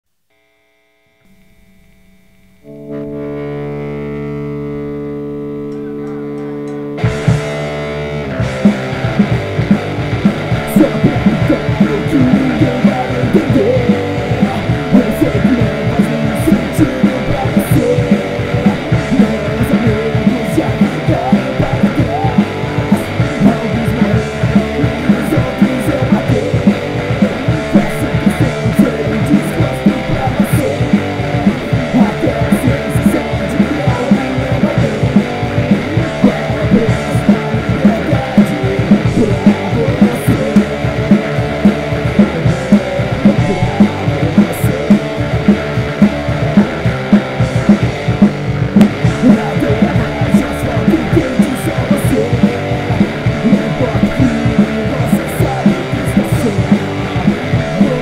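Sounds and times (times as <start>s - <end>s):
held guitar chord: 0.3s - 58.0s
punk rock song: 1.2s - 58.0s.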